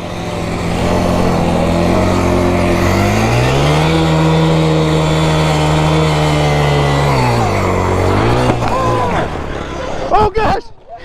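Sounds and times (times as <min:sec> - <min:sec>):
quad engine revving: 0:00.0 - 0:10.2.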